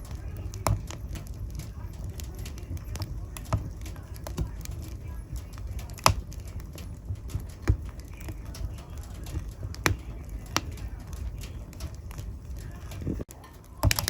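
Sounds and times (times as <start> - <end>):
low fire rumble: 0.0 - 14.0
sharp fire pops: 0.0 - 14.0
wood fire crackling: 0.0 - 14.0.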